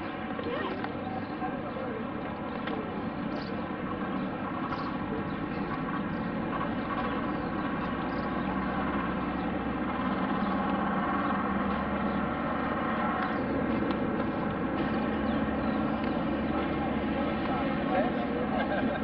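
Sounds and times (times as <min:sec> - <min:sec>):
aircraft engines humming: 0:00.0 - 0:19.0.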